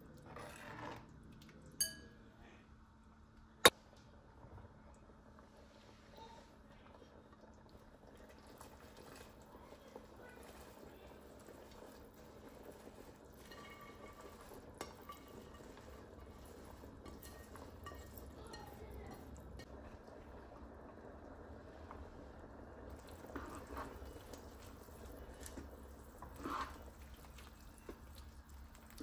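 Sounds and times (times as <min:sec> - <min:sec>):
soup bubbling in pot: 0:04.3 - 0:29.0.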